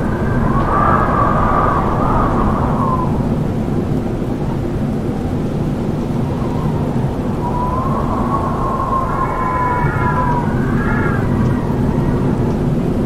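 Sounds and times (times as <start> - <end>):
howling wind: 0.0 - 13.0.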